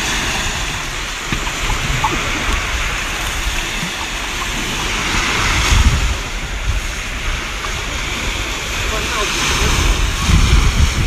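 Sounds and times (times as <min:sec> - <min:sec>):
small waves washing onto sand: 0:00.0 - 0:11.0
wind rumbling on microphone: 0:00.0 - 0:11.0.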